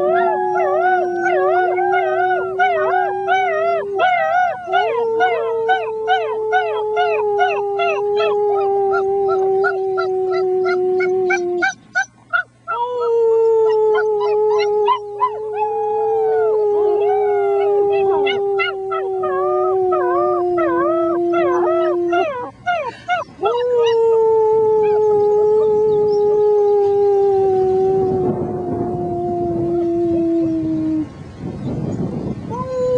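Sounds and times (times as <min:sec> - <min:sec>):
person howling low: 0:00.0 - 0:11.7, 0:12.7 - 0:31.1, 0:32.5 - 0:32.9
puppies howling: 0:00.0 - 0:29.7.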